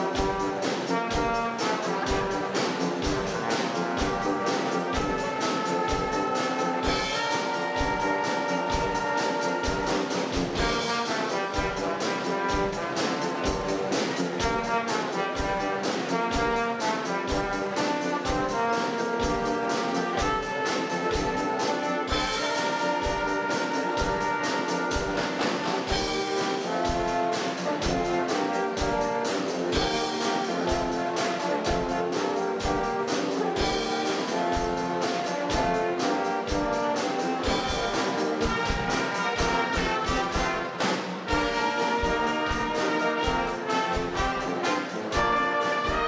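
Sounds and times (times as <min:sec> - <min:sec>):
brass quintet playing: 0:00.0 - 0:46.0
drum kit beat: 0:00.0 - 0:46.0.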